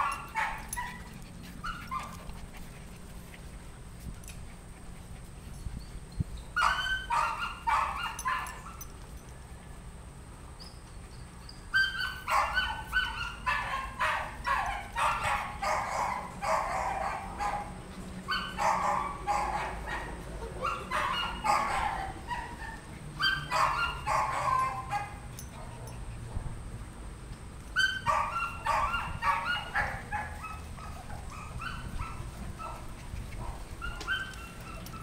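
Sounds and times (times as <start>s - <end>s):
puppies yipping and barking: 0.0s - 9.1s, 10.6s - 26.3s, 27.6s - 35.0s.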